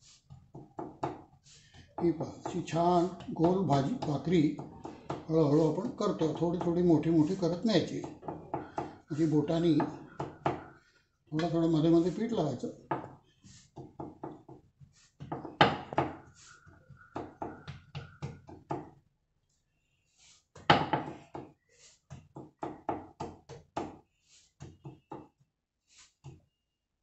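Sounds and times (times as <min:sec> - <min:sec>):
hands patting dough on a board: 0:00.0 - 0:19.0, 0:20.5 - 0:25.4.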